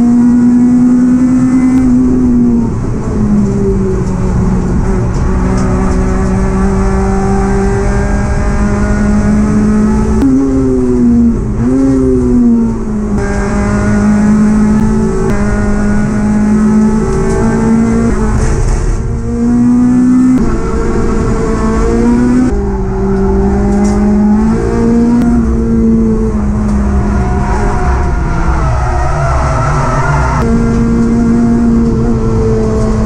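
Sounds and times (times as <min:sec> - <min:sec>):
race car engine at full throttle: 0:00.0 - 0:33.0.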